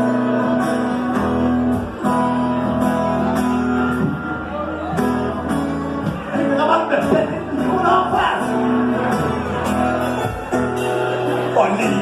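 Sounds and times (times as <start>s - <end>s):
band playing: 0.0s - 12.0s
guitar: 0.0s - 12.0s.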